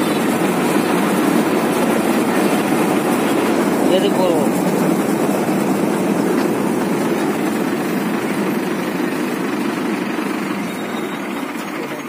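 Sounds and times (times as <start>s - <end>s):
harvesting machine running: 0.0s - 12.0s.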